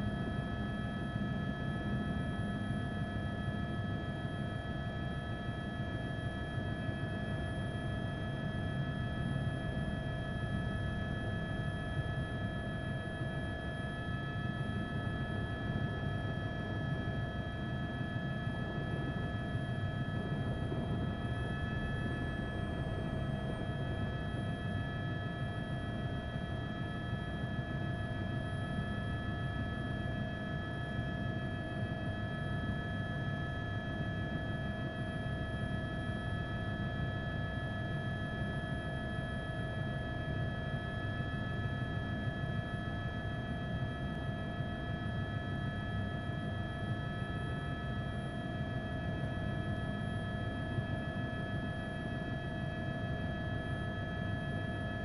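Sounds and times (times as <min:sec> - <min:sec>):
helicopter engine and rotors droning: 0:00.0 - 0:55.0.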